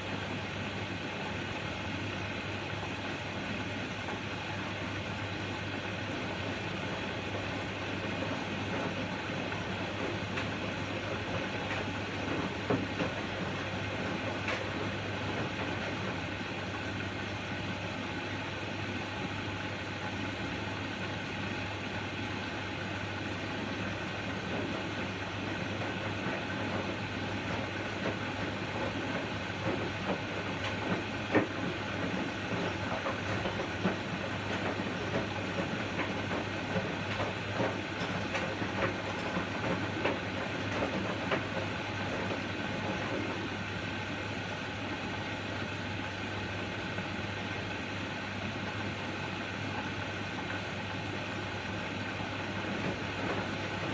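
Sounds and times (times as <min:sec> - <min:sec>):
washing machine running: 0:00.0 - 0:53.9.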